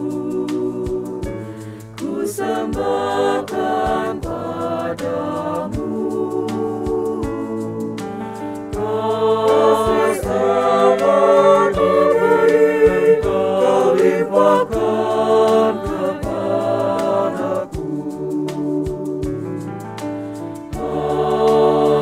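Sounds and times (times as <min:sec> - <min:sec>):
men singing in harmony: 0:00.0 - 0:08.0, 0:08.8 - 0:19.4, 0:20.8 - 0:22.0.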